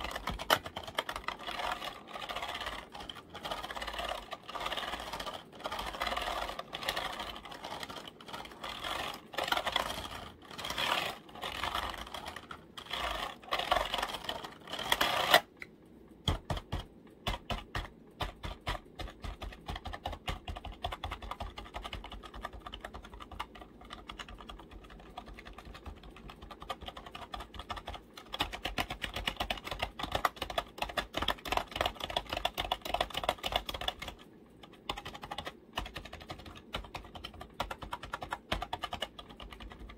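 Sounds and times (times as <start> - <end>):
tapping on computer keyboard: 0.0 - 39.9.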